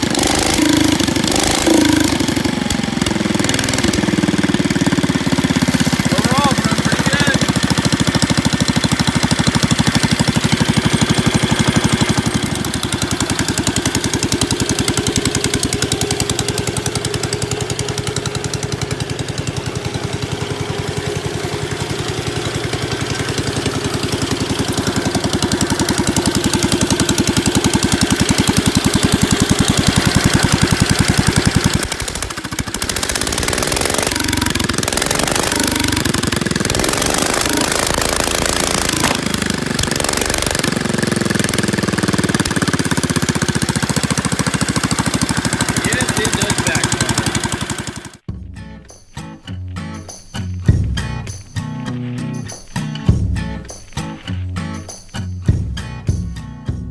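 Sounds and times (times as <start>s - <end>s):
car engine running: 0.0s - 48.3s.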